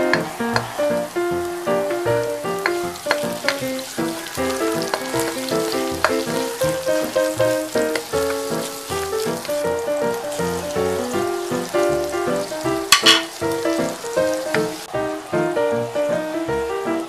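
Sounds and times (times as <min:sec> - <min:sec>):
background music: 0:00.0 - 0:17.0
onion sizzling in hot oil: 0:00.0 - 0:17.0.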